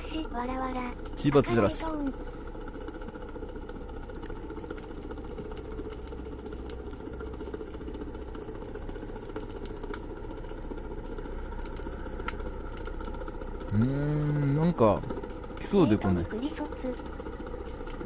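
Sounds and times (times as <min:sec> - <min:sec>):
low motor-like hum: 0:00.0 - 0:18.0
faint clicks: 0:02.6 - 0:18.0.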